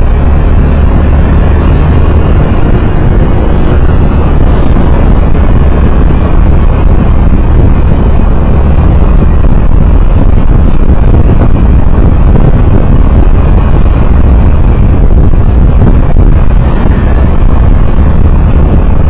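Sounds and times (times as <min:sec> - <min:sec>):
vehicle rumble in motion: 0:00.0 - 0:19.0
wind noise on microphone: 0:00.0 - 0:19.0.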